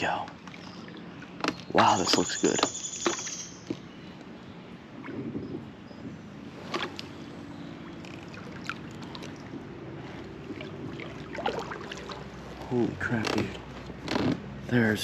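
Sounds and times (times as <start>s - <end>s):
water around kayak hull: 0.0s - 14.8s.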